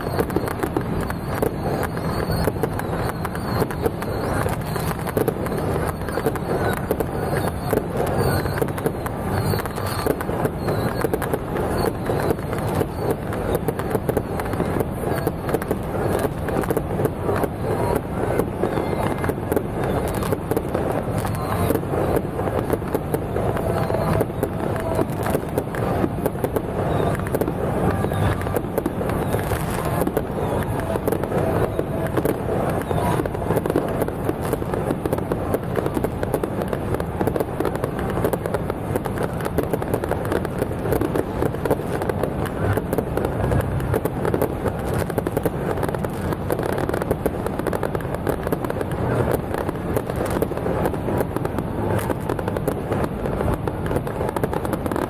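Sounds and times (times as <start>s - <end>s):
firework whistles: 0.0s - 55.0s
fireworks crackling bangs: 0.0s - 55.0s.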